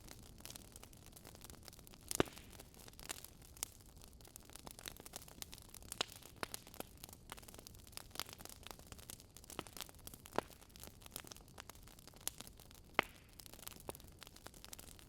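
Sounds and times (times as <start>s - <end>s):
burning logs crackling: 0.0s - 15.0s.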